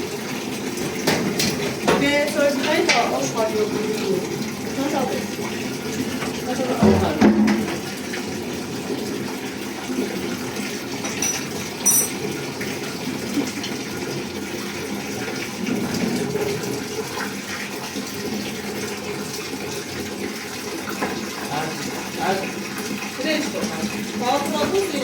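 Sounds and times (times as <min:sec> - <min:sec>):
water pouring: 0:00.0 - 0:25.0.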